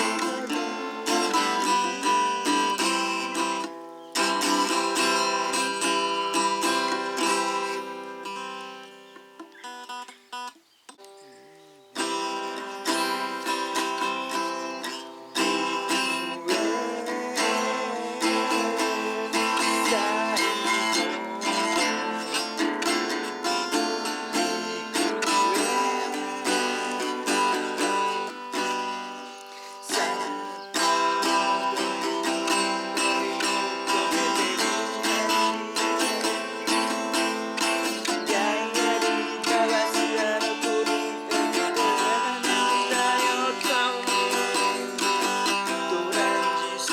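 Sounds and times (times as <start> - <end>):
acoustic guitar picked and strummed: 0.0 - 46.9.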